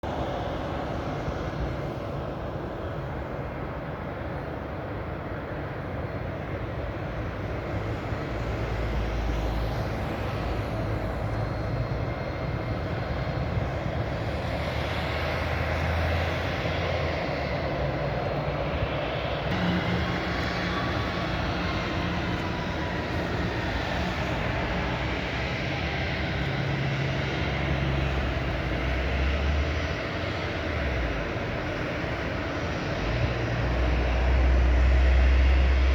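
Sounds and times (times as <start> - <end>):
jet engines rumbling and whining: 0.0 - 35.9.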